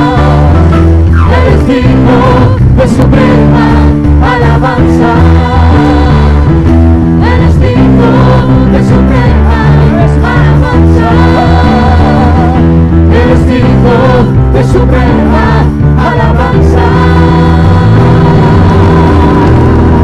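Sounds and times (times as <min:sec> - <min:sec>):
worship band with singing: 0:00.0 - 0:20.0.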